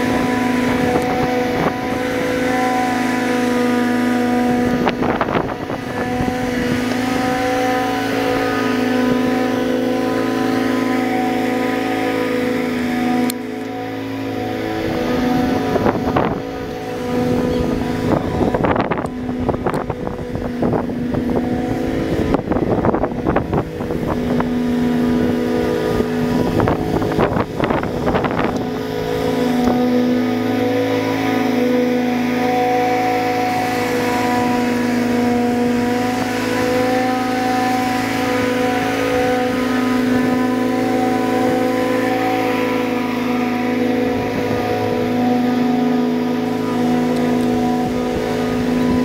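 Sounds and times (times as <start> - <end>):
blades cutting grass: 0.0 - 49.0
mower engine running: 0.0 - 49.0.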